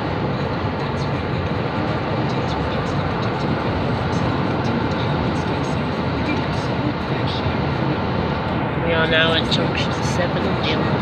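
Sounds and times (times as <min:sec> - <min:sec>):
low road rumble: 0:00.0 - 0:11.0.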